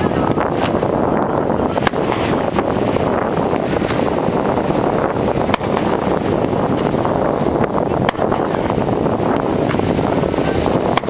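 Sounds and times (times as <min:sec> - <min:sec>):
fireworks popping: 0:00.0 - 0:11.0
wind noise on microphone: 0:00.0 - 0:11.0.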